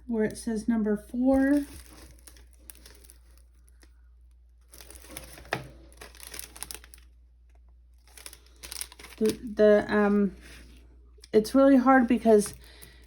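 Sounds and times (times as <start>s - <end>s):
plastic bags crinkling: 1.2s - 10.8s, 12.0s - 13.0s.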